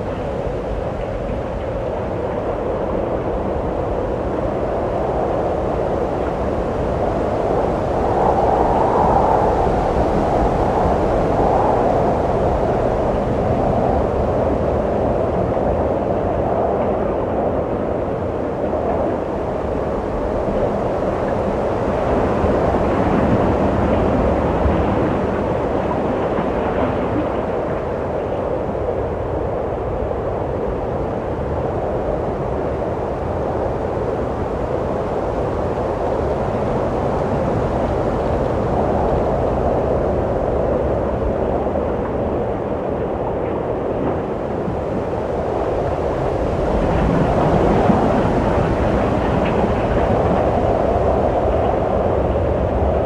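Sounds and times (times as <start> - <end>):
wind blowing: 4.2 - 53.0.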